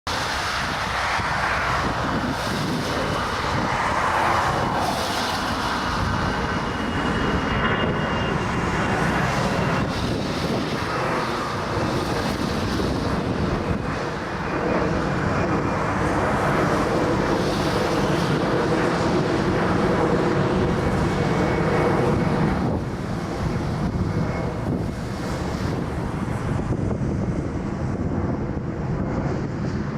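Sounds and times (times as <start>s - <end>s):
faint high jet whine: 0.1s - 29.9s
jet engines rushing: 0.1s - 29.9s.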